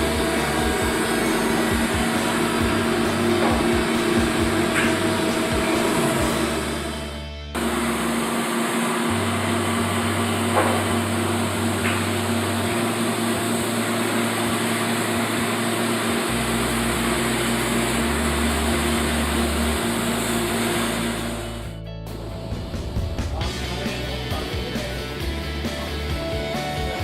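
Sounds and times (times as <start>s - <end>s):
machine whirring hiss and hum: 0.0s - 25.2s
low bass background music: 0.0s - 27.0s.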